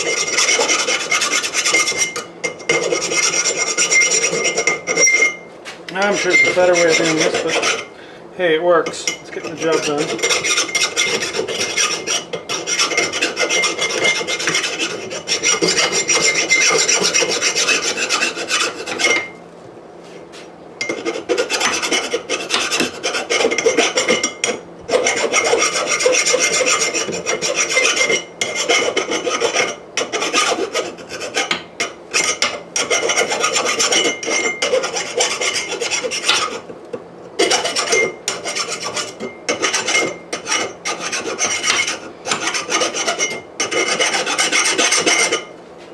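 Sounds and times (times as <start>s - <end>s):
rasping on steel edges: 0.0s - 8.0s, 8.8s - 19.4s, 20.8s - 45.6s.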